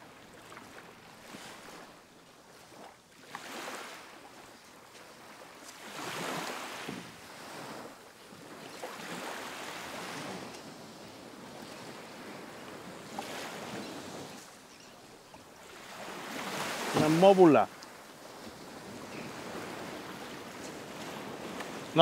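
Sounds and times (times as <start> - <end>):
waves breaking on sandy beach: 0.0 - 22.0.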